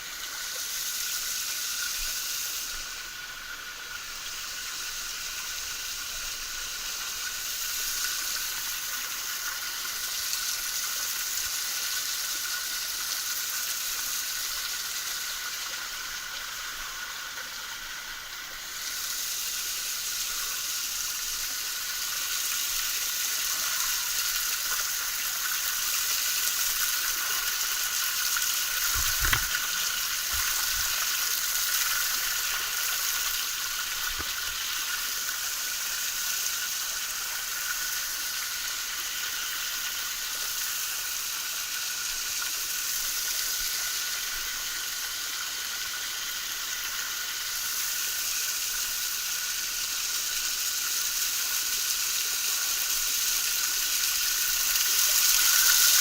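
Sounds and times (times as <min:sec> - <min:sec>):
small waterfall splashing: 0:00.0 - 0:56.0.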